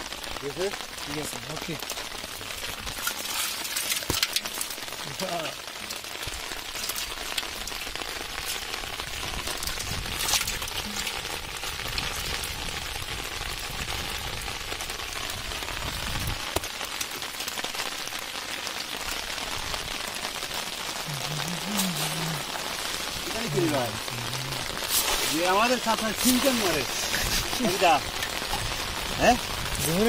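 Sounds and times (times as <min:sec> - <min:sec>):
rain pattering on floodwater: 0:00.0 - 0:30.0.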